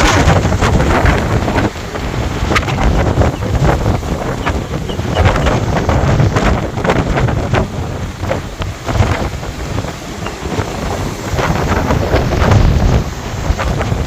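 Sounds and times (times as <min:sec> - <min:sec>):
sea surf: 0:00.0 - 0:14.0
wind gusting on microphone: 0:00.0 - 0:14.0.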